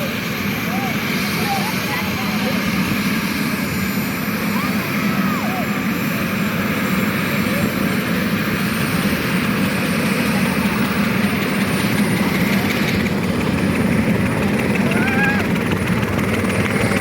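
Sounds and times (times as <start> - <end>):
helicopter engine and rotor whir: 0.0 - 17.0.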